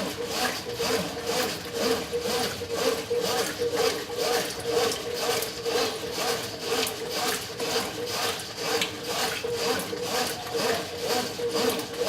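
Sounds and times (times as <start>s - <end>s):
washing machine swishing water: 0.0s - 12.0s.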